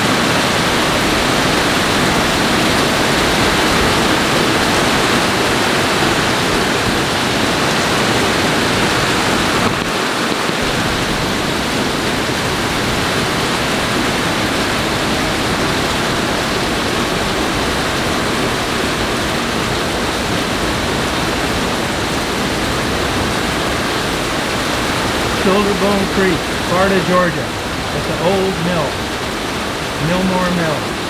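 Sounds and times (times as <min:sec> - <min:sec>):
rainstorm water rushing: 0:00.0 - 0:31.0.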